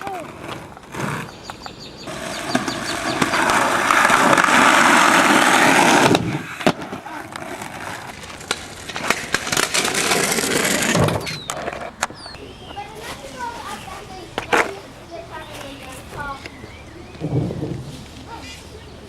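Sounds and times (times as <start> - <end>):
skateboard clacking on ground: 0.0 - 19.0
skateboard wheels rolling: 0.0 - 19.0.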